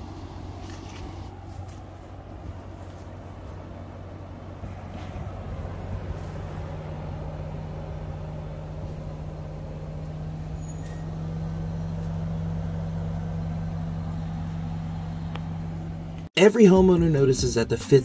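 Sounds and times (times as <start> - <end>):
heat pump fan humming: 0.0 - 16.3.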